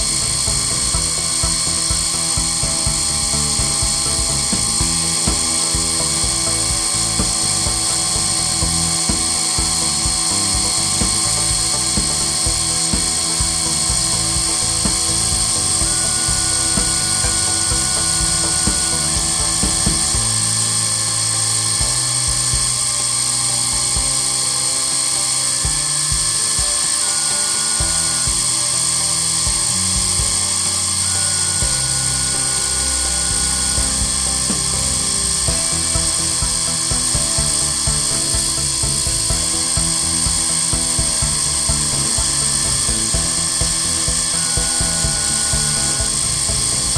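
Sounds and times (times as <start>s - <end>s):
cutter cutting and axis motors: 0.0s - 46.9s
milling machine spindle whine: 0.0s - 46.9s.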